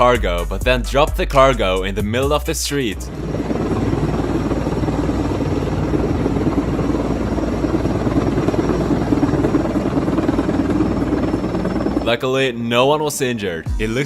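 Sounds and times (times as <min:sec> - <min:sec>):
helicopter hovering: 0:00.0 - 0:14.0.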